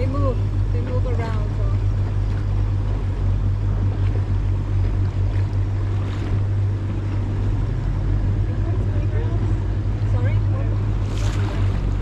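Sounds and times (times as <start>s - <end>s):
boat engine humming: 0.0s - 12.0s
rushing water: 0.0s - 12.0s
wind: 0.0s - 12.0s.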